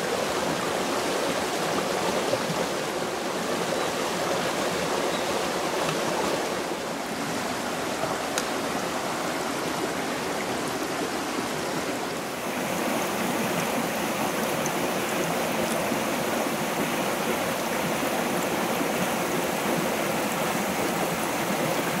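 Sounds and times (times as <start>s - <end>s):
stream flowing over stones: 0.0s - 22.0s.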